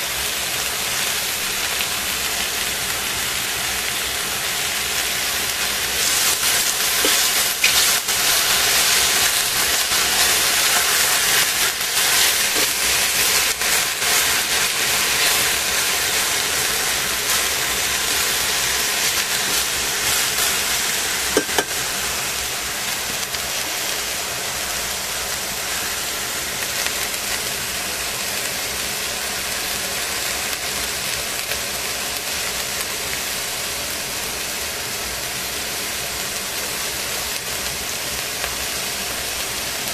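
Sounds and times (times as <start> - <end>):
pot steaming and sizzling: 0.0 - 39.9.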